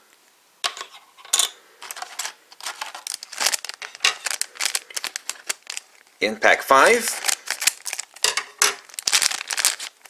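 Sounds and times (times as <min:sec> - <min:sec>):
plastic wrapper crinkling: 0:01.8 - 0:10.0.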